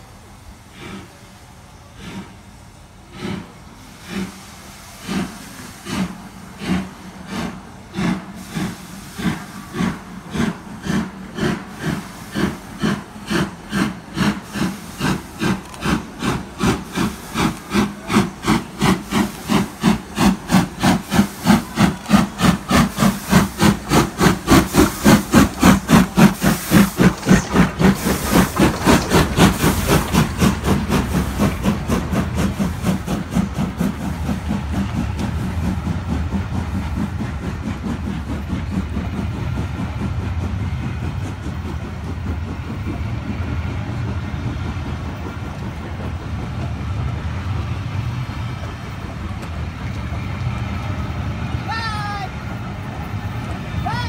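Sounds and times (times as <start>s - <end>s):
rumble of train coaches: 0.0s - 54.0s
steam locomotive exhaust chuffs: 0.0s - 54.0s.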